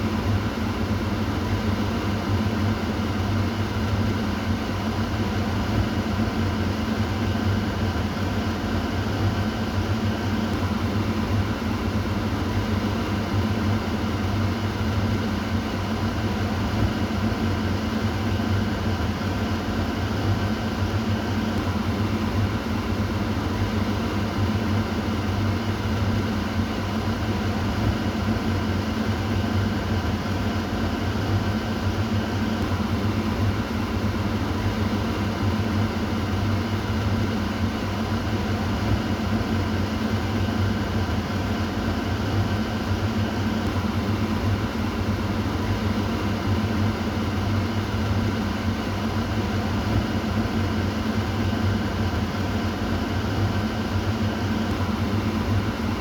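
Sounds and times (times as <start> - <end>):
exhaust fan humming: 0.0 - 56.0.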